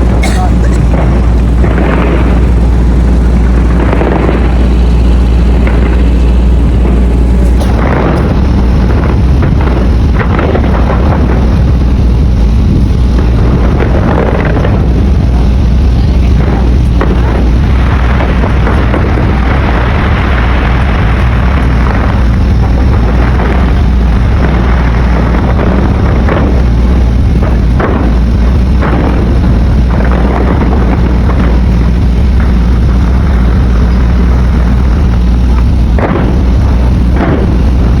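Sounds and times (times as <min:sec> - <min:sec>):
fireworks bursting: 0:00.0 - 0:38.0
low rumble: 0:00.0 - 0:38.0.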